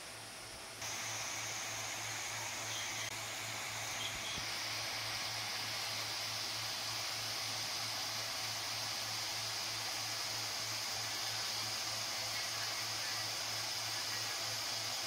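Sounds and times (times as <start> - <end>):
laptop cooling fans whooshing: 0.0 - 15.0.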